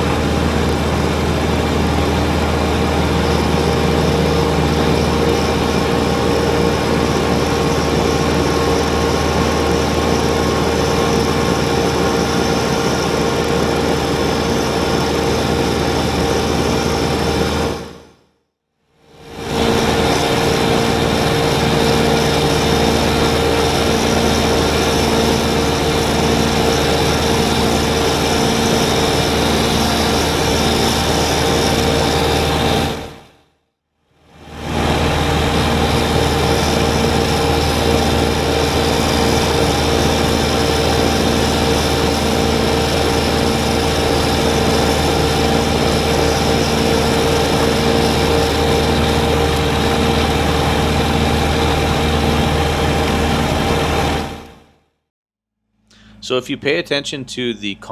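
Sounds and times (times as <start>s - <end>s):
diesel tractor engine under load: 0.0s - 17.9s, 19.4s - 33.2s, 34.6s - 54.6s.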